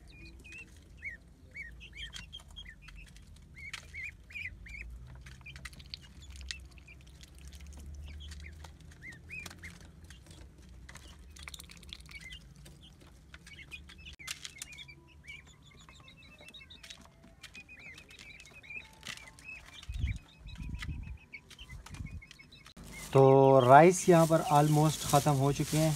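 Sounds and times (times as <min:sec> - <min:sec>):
beaks tapping on ground: 0:00.0 - 0:25.9
chicks peeping: 0:00.0 - 0:25.9.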